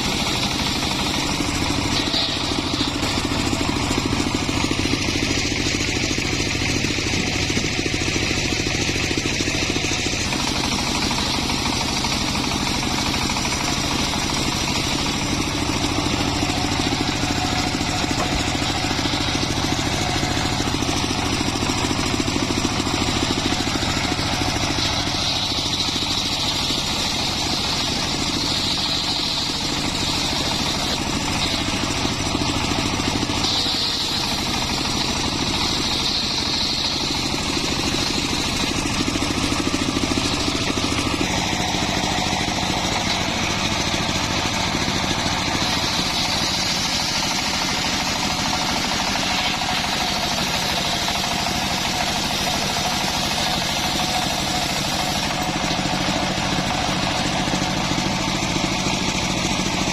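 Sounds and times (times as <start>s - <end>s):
sawmill engine droning: 0.0s - 59.9s.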